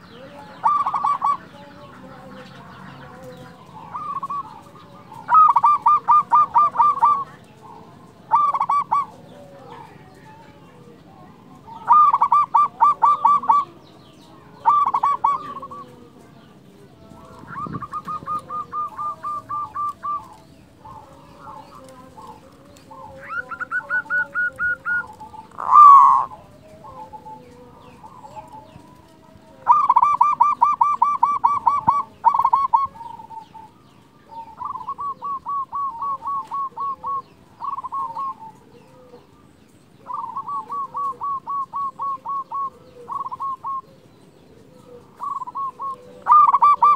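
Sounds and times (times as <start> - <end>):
dove cooing staccato notes: 0.0 - 46.9.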